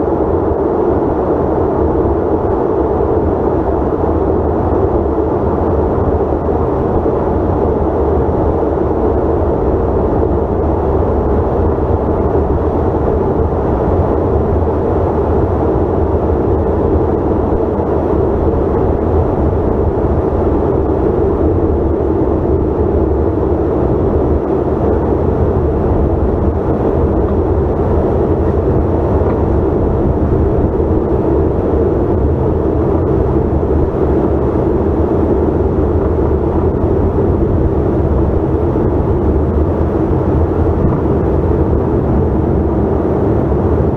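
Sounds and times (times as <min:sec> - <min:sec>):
airliner cabin jet engine rush: 0:00.0 - 0:43.9.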